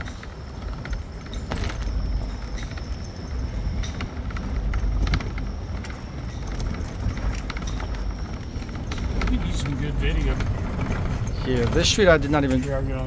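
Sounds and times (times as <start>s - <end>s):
rattles and clicks: 0.0s - 13.0s
vehicle rumbling over bricks: 0.0s - 13.0s.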